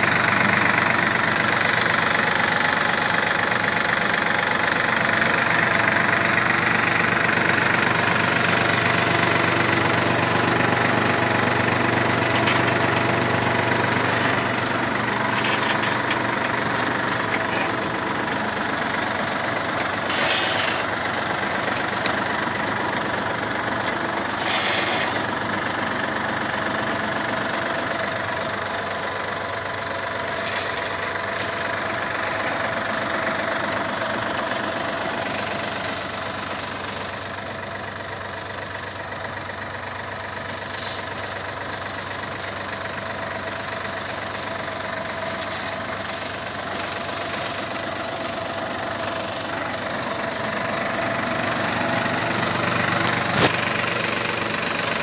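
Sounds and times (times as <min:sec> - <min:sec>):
digger elevator working soil: 0:00.0 - 0:55.0
tractor diesel engine running: 0:00.0 - 0:55.0.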